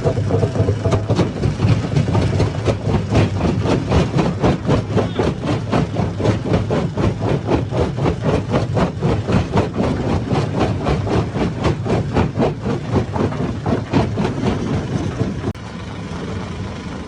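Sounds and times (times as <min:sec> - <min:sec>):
stone crusher clatter: 0:00.0 - 0:15.6
low engine drone: 0:00.0 - 0:17.0.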